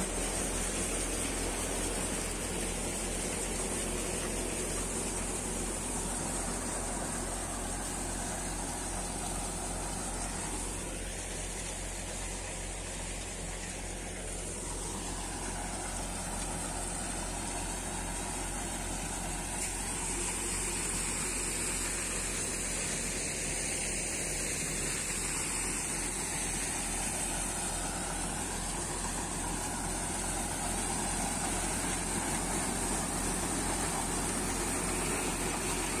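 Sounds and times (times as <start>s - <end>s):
steady high hiss: 0.0s - 36.0s
thresher machine droning: 0.0s - 36.0s.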